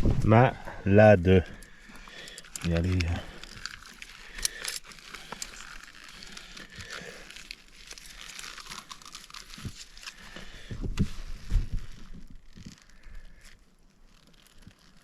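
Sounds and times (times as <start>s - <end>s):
material crinkling and rustling: 1.3s - 15.0s.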